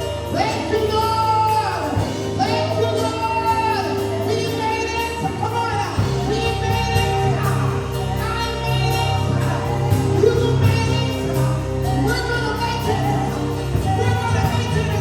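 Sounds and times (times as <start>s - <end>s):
sustained instrumental accompaniment: 0.0s - 15.0s
voices singing gospel: 0.0s - 15.0s.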